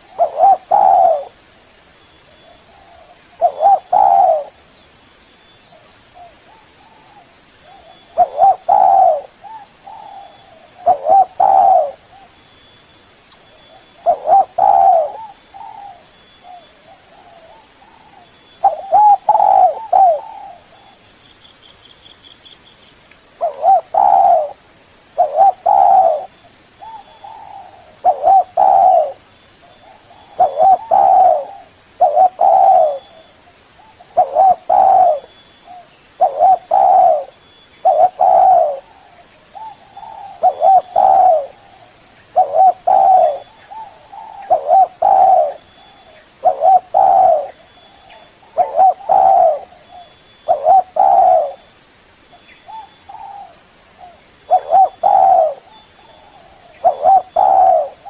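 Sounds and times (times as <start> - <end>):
dove cooing: 0.0 - 1.5, 2.3 - 4.7, 5.7 - 12.4, 13.6 - 21.0, 23.4 - 24.6, 25.2 - 51.7, 52.6 - 58.0.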